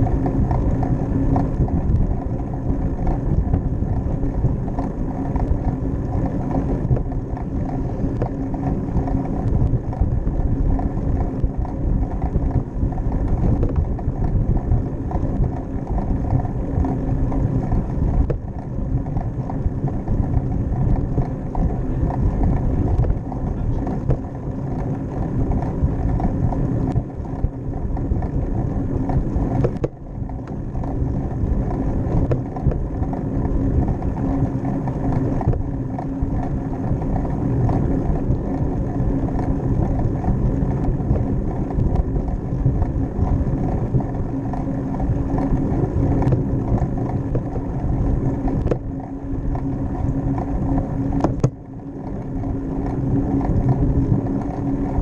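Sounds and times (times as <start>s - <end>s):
bicycle rolling on concrete: 0.0s - 55.0s.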